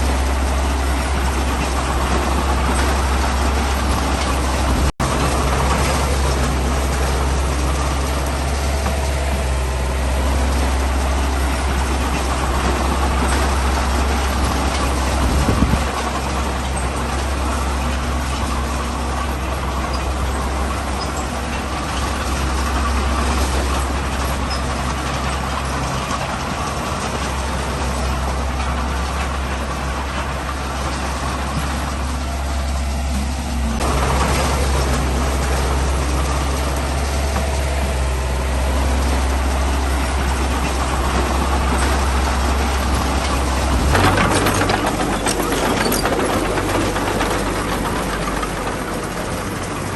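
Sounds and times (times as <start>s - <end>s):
heavy diesel engines droning: 0.0s - 49.9s.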